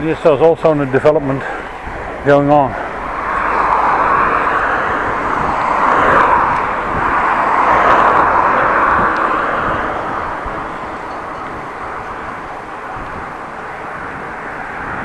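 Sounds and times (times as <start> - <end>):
road noise: 0.0 - 15.0
wind rushing: 0.7 - 15.0.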